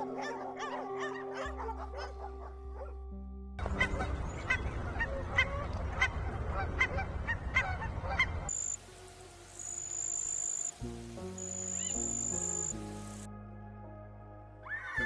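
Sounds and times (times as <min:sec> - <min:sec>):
soft music: 0:00.0 - 0:05.6, 0:08.5 - 0:15.0.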